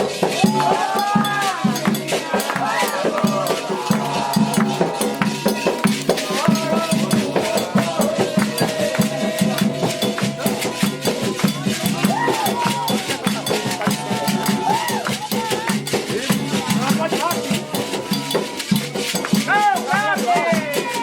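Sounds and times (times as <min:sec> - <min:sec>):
bell in a rhythm: 0:00.0 - 0:21.0
hand drums: 0:00.0 - 0:21.0
voices singing a chant: 0:00.0 - 0:21.0.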